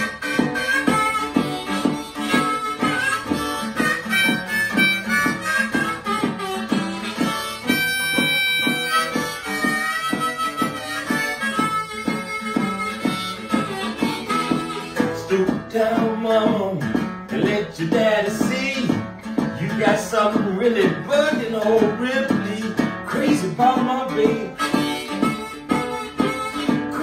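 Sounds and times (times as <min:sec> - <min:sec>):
blues harmonica: 0:00.0 - 0:27.0
rhythmic accompaniment: 0:00.0 - 0:27.0.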